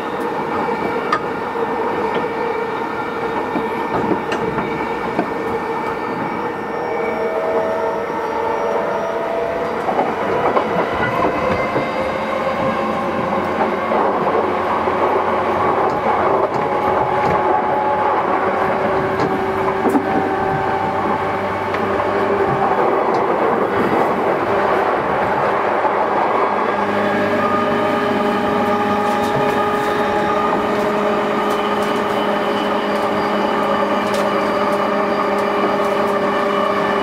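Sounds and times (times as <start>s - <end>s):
train rolling rumble: 0.0s - 8.2s, 9.0s - 37.0s.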